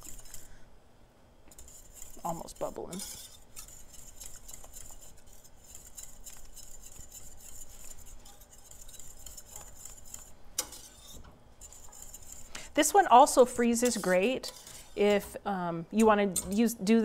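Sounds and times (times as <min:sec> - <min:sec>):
whisk scraping a saucepan: 0:00.0 - 0:00.6, 0:01.5 - 0:15.4.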